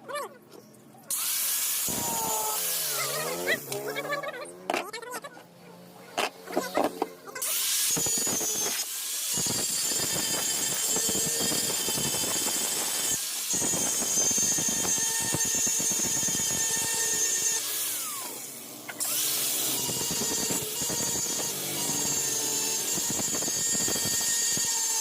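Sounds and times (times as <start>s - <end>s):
power tool squealing on metal: 1.1s - 25.0s.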